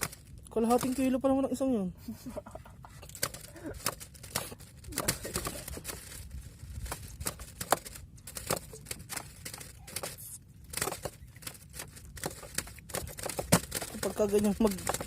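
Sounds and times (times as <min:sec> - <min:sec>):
rapid irregular clicks: 0:00.0 - 0:01.5, 0:02.8 - 0:15.0
crinkling rustles: 0:00.0 - 0:01.7, 0:02.3 - 0:15.0.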